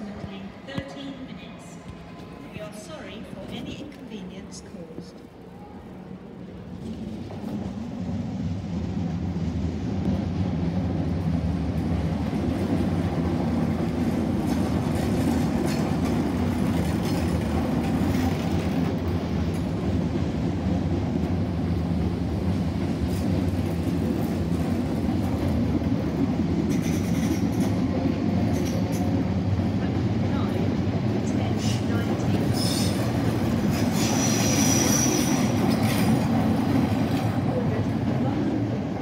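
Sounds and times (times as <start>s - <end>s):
train wheels rumbling: 0.0s - 39.0s.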